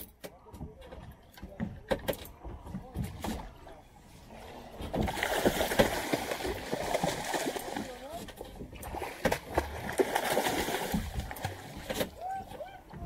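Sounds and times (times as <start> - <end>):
water splashing against boat hull: 0.0 - 13.0.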